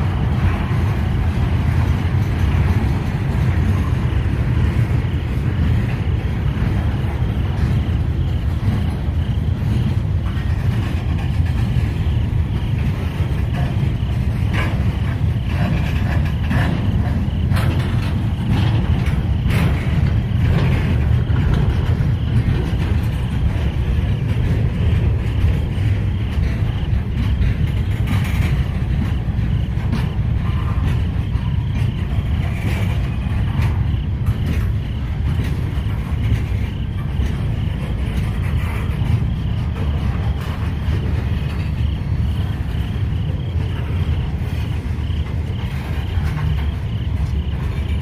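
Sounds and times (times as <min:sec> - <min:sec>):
freight cars clanking: 0:00.0 - 0:48.0
train wheels rumbling on rail: 0:00.0 - 0:48.0.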